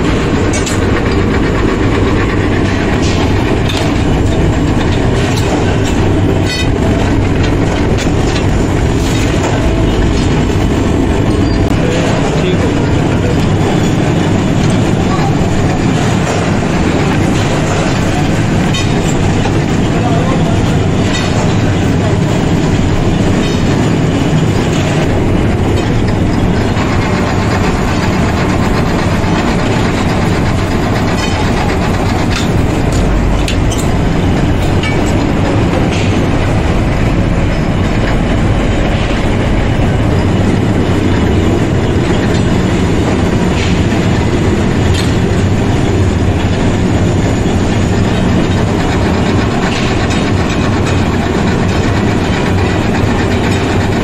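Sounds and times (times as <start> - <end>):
irregular clatter: 0.0 - 54.0
workshop machinery rumbling: 0.0 - 54.0.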